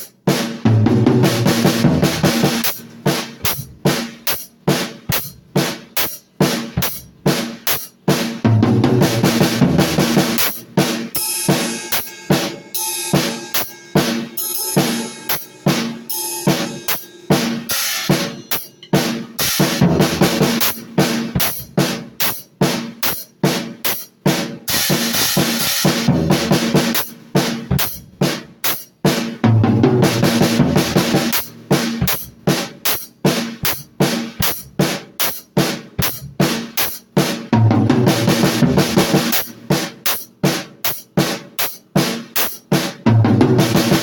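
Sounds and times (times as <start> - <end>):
drum kit playing: 0.0 - 44.0.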